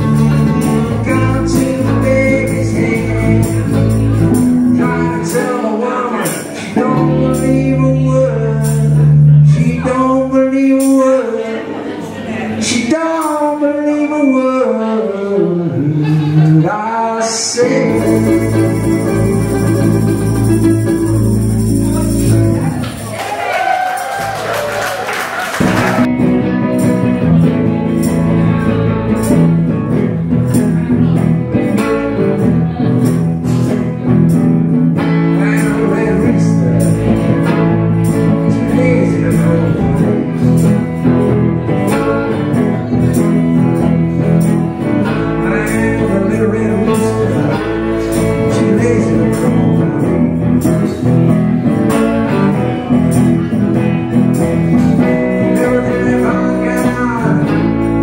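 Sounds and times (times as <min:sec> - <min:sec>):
archtop guitar: 0:00.0 - 0:23.4, 0:25.6 - 0:58.0
electric guitar: 0:00.0 - 0:58.0
live blues band: 0:00.0 - 0:58.0.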